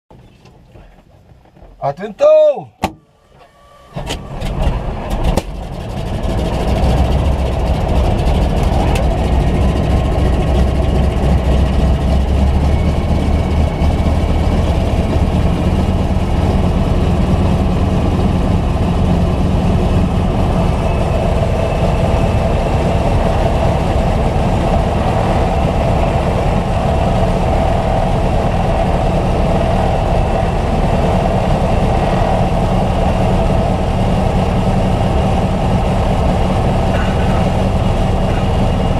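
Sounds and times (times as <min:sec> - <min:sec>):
radial aircraft engine running: 0:02.9 - 0:38.9.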